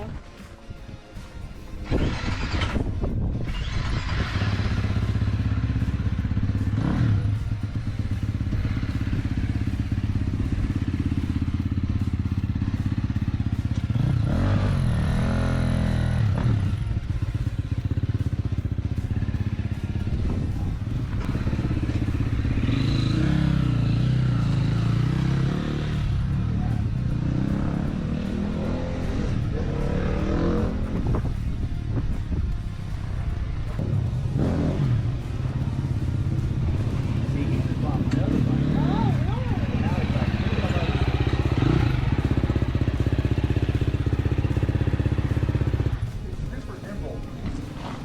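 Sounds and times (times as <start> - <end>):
dirt bike engine revving: 1.8 - 46.2.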